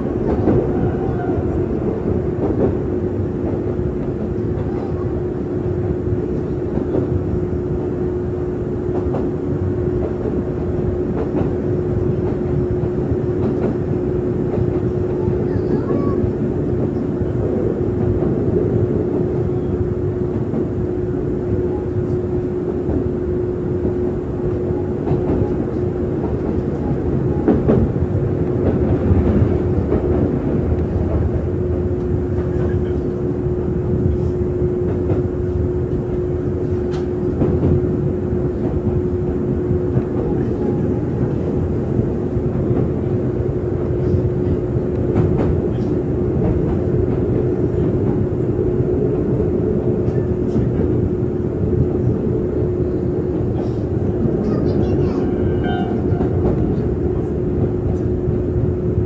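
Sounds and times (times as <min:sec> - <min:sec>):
constant hum: 0:00.0 - 0:59.0
train running noise: 0:00.0 - 0:59.0.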